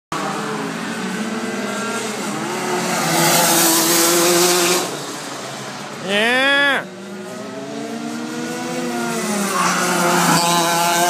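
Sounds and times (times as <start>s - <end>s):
kart engines racing: 0.1s - 11.0s
kart engine passing close: 0.2s - 6.1s, 6.8s - 11.0s.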